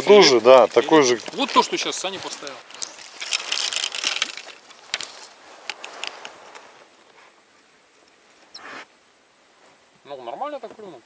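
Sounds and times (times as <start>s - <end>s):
fishing rod rustle: 0.0s - 8.9s.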